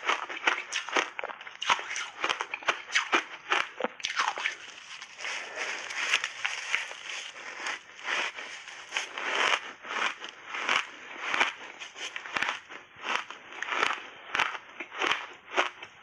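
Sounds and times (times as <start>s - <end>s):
crunching ice chewing: 0.0s - 16.0s.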